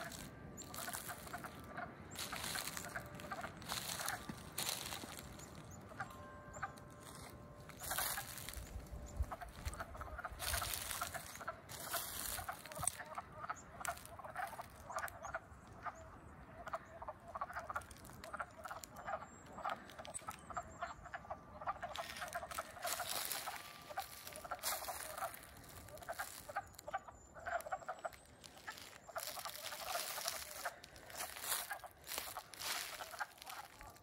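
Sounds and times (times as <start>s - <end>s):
frogs clucking chorus: 0.0s - 34.0s.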